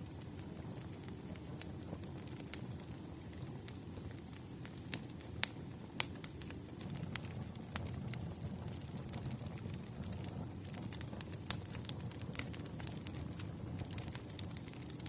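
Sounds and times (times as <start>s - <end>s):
burning logs popping: 0.0s - 15.0s
wood fire crackling: 0.0s - 15.0s.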